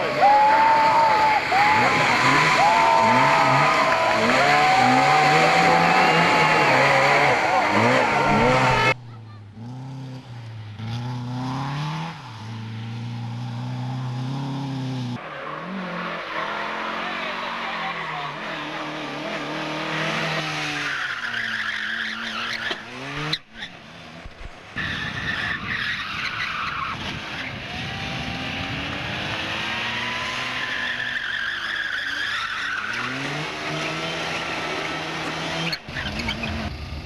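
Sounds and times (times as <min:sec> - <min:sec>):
rally car engines revving: 0:00.0 - 0:37.0
tyres skidding: 0:00.0 - 0:37.0.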